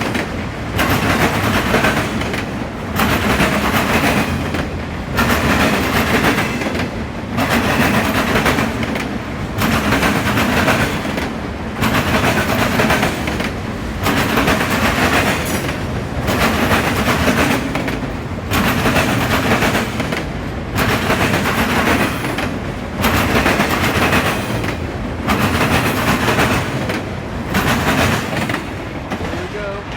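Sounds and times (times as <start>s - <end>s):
train wheels clattering: 0.0s - 29.9s.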